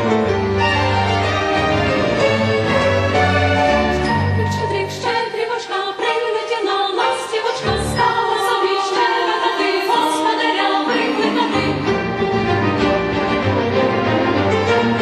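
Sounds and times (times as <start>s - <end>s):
chamber choir singing: 0.0s - 15.0s.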